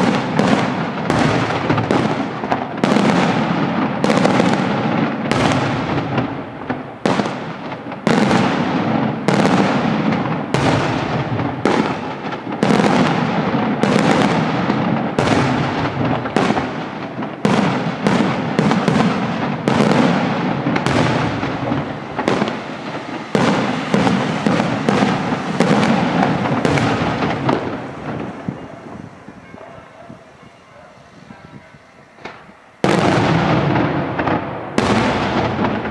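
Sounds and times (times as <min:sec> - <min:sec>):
fireworks bangs echoing: 0:00.0 - 0:35.9.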